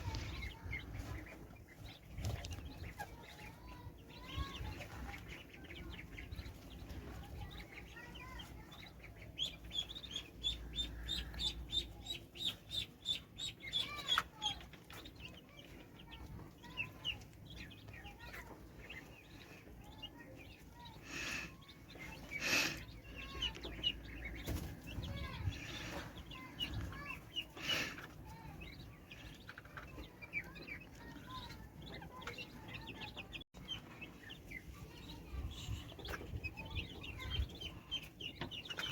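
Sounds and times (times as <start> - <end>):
poultry peeping and chirping: 0.0 - 38.9.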